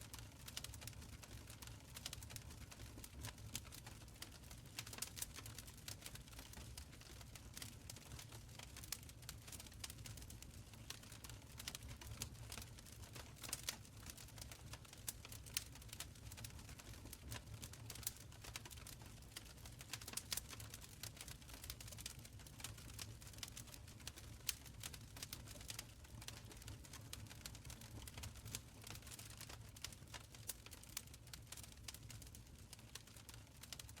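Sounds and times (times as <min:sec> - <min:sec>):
wood fire crackling and popping: 0:00.1 - 0:34.0.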